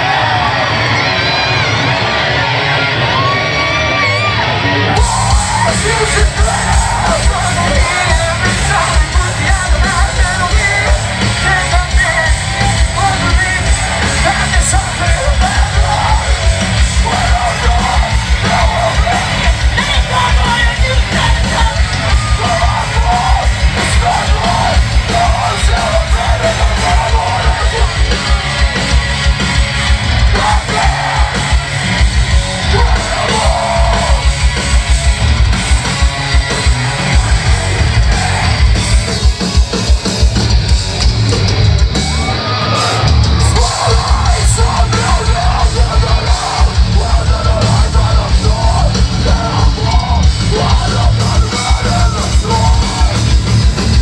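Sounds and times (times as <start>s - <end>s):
bass guitar: 0.0s - 54.0s
distorted electric guitars: 0.0s - 54.0s
heavy drums: 0.0s - 54.0s.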